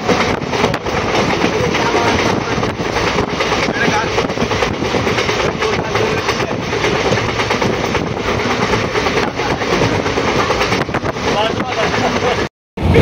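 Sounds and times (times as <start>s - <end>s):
train wheels clattering over rail joints: 0.0s - 12.5s
train rumble: 0.0s - 13.0s.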